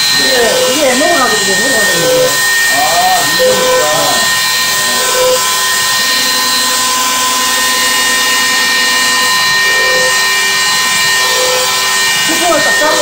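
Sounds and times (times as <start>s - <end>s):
router spindle running at high speed: 0.0s - 13.0s.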